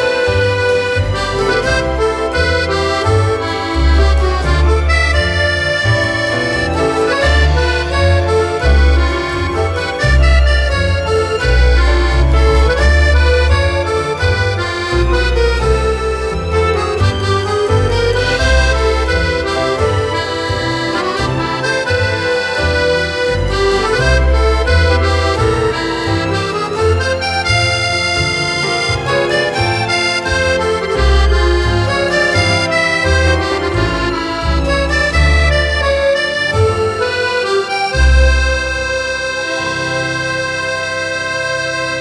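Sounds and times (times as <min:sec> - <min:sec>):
instrumental music with bass line: 0:00.0 - 0:42.0.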